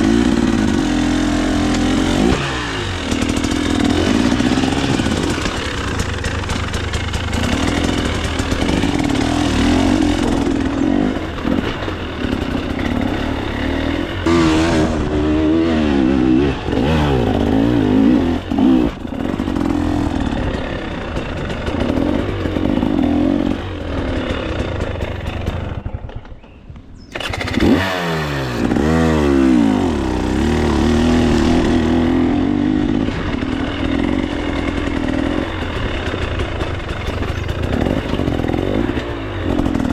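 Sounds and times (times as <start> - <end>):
dirt bike engine revving: 0.0 - 26.2, 27.1 - 39.9.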